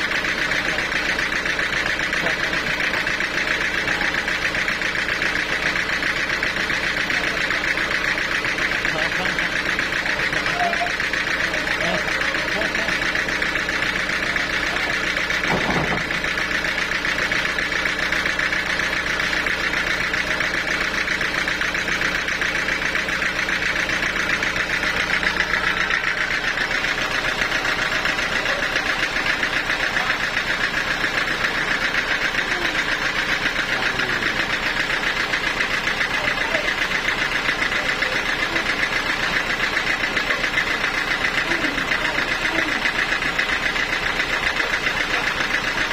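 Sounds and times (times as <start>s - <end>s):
sawmill machinery running: 0.0s - 45.9s.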